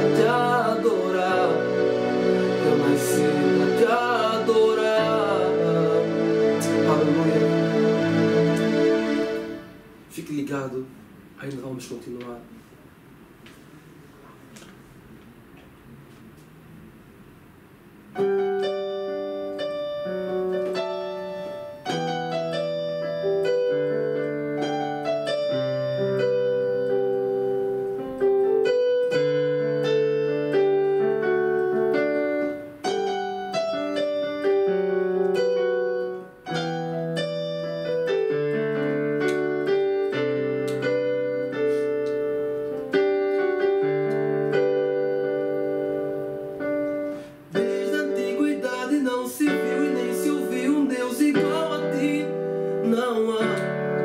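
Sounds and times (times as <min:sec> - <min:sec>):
keyboard playing slow chords: 0:00.0 - 0:10.2, 0:15.9 - 0:54.0.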